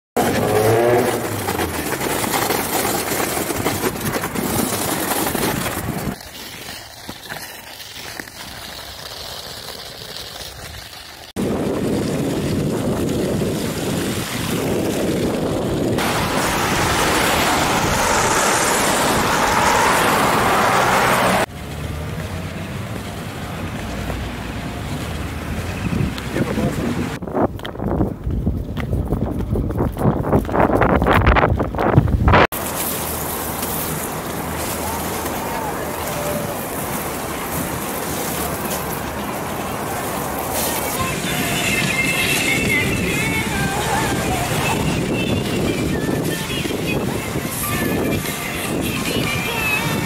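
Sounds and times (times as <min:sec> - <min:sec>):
skate wheels rolling through puddles: 0:00.2 - 0:50.0.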